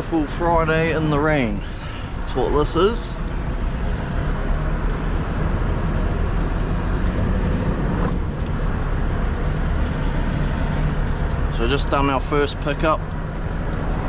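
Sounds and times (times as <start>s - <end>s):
road noise: 0.0s - 14.0s
truck diesel engine running: 0.0s - 14.0s.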